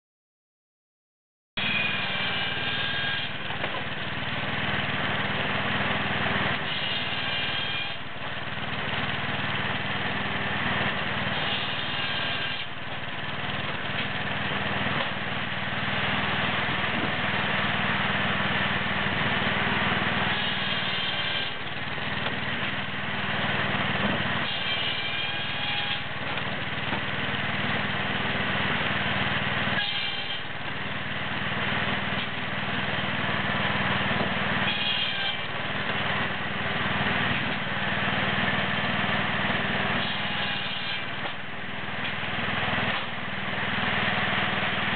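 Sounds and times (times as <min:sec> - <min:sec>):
log splitter engine running: 0:01.6 - 0:44.9.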